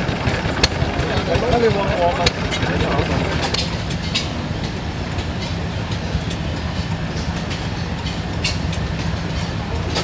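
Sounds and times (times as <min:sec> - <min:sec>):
faint engine clicks: 0:00.0 - 0:10.0
stationary engine chugging: 0:00.0 - 0:10.0.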